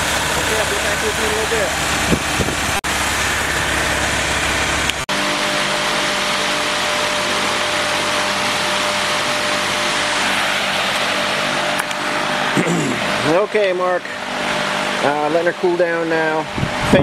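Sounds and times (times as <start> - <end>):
engine hum with whining tone: 0.0 - 17.0
engine low rumble: 0.0 - 17.0.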